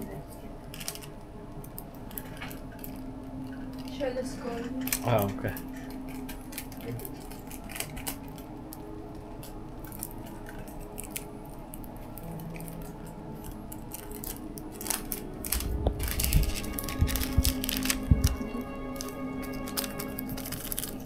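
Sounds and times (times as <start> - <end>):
paper crinkling and crackling: 0.0 - 21.0.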